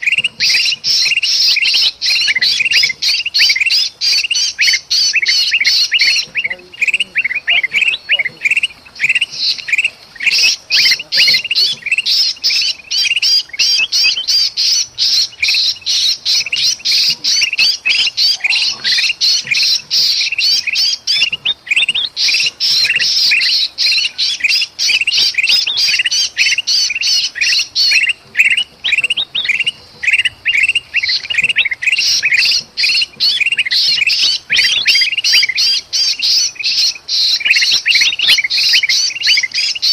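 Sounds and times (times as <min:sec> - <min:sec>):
bird distress calls: 0:00.0 - 0:39.9
birds squawking and chirping: 0:00.0 - 0:39.9.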